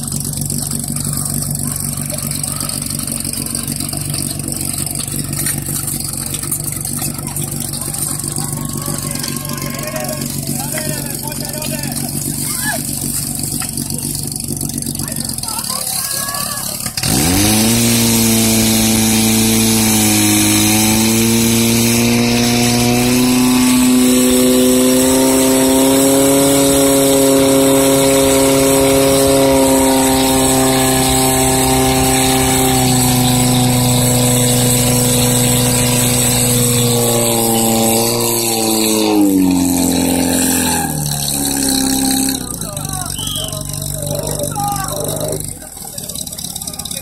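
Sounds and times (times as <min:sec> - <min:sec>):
pump engine running at high revs: 0:00.0 - 0:47.0.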